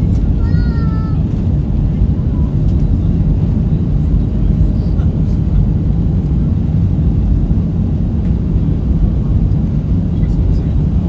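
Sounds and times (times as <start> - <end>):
jet engines at takeoff power: 0.0 - 11.0.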